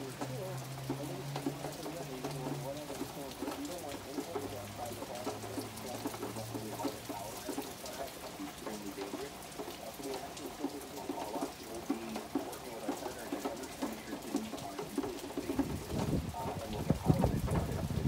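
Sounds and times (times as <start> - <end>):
rain falling steadily: 0.0 - 18.0
raindrops ticking on surfaces: 0.0 - 18.0.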